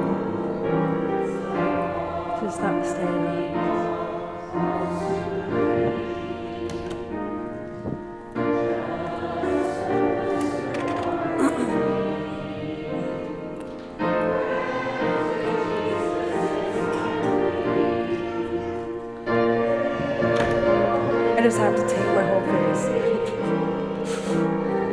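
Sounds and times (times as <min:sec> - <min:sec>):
congregation singing a hymn: 0:00.0 - 0:24.9.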